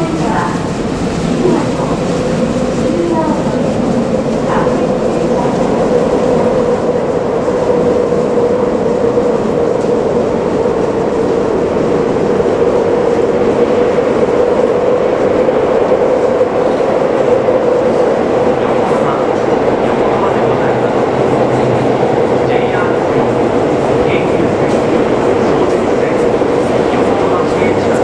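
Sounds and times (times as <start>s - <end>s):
train wheels on rail: 0.0s - 28.0s.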